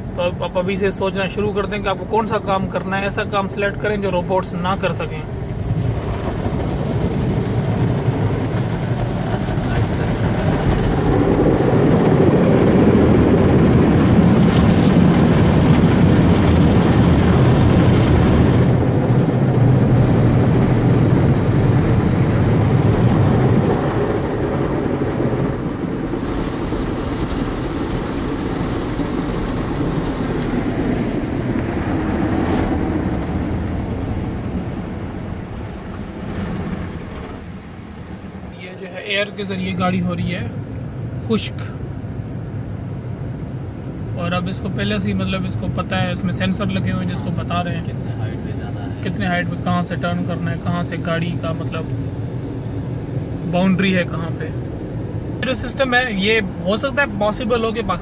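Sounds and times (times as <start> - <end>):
car wash machine rumble: 0.0 - 58.0
water spraying on car: 0.0 - 58.0.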